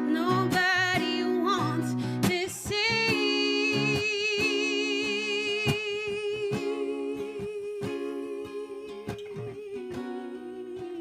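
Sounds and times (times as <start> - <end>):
picked acoustic guitar chords: 0.0 - 11.0.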